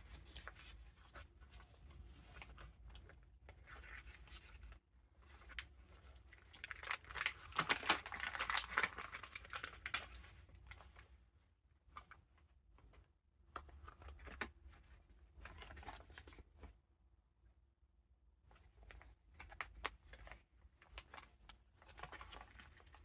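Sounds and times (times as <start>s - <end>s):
paper rustling and crinkling: 0.0s - 11.1s, 13.6s - 16.6s, 18.5s - 23.0s.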